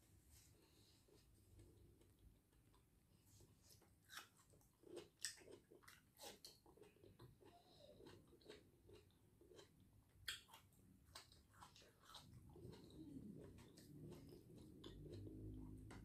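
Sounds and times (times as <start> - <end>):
close-up chewing: 0.7 - 16.0.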